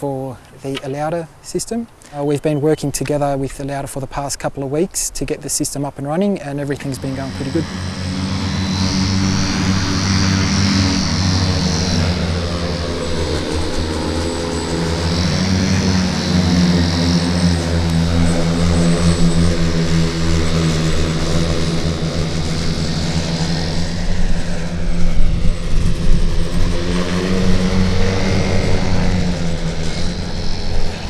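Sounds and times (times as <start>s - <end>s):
multicopter propellers droning: 0.0s - 31.0s.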